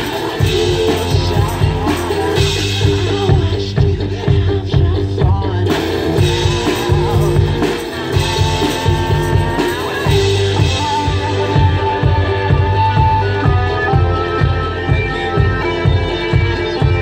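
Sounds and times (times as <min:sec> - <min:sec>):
one-man-band street music: 0:00.0 - 0:17.0.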